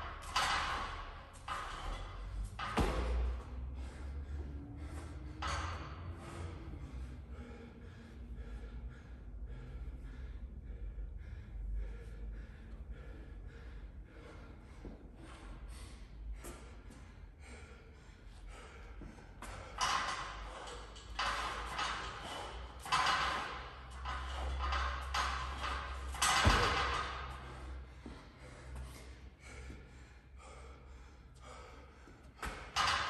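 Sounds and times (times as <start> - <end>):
low steady rumble: 0.0 - 32.8
man gasping for breath: 1.6 - 33.0.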